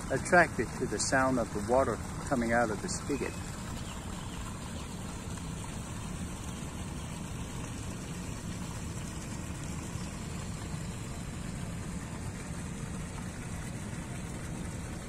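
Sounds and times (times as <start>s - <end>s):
water running into a pond: 0.0s - 15.0s.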